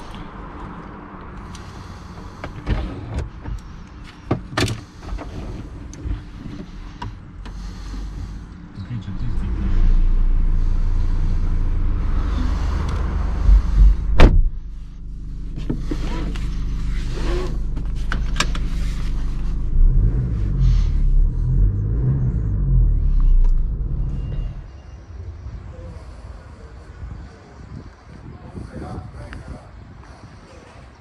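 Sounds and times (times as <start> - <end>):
diesel engine rumble: 0.0 - 31.0.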